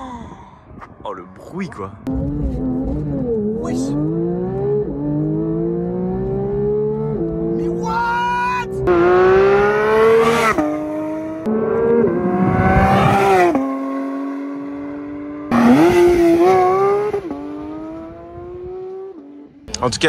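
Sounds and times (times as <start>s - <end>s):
car engine at full throttle: 0.0s - 20.0s.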